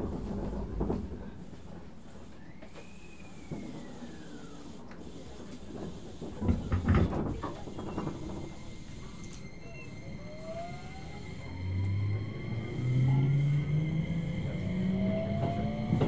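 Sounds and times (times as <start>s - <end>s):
train inverter whine: 0.1s - 16.0s
sliding doors shutting: 2.6s - 16.0s.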